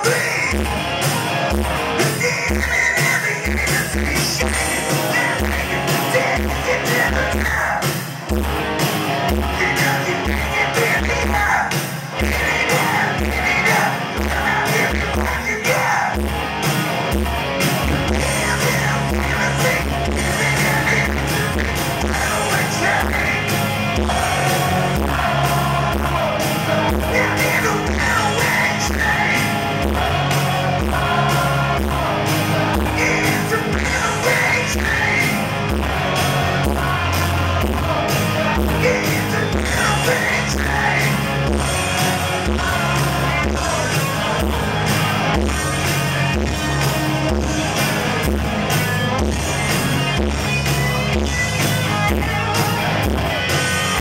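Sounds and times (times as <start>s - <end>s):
man singing: 0.0s - 0.7s, 2.0s - 8.0s, 9.5s - 16.2s, 18.1s - 48.3s
bass guitar: 0.0s - 54.0s
electric guitars: 0.0s - 54.0s.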